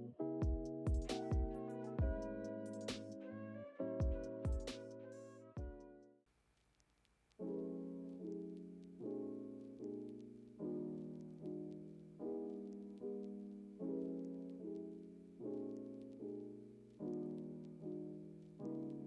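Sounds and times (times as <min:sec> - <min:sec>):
slow piano chords: 0:00.0 - 0:06.2, 0:07.4 - 0:19.0.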